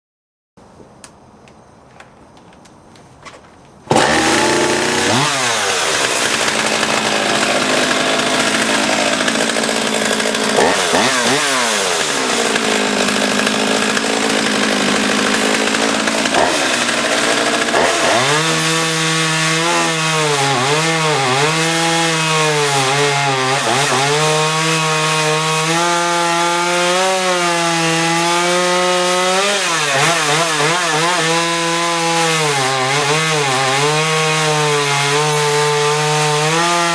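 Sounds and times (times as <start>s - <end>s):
chainsaw cutting wood: 3.9s - 36.9s.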